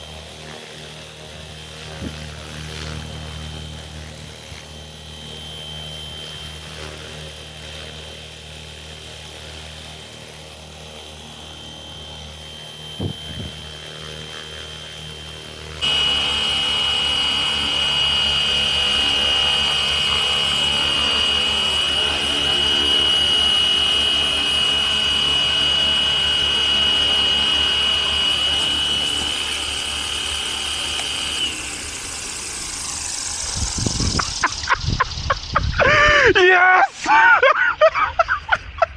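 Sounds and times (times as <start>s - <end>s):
rc helicopter rotor whine: 0.0s - 38.9s.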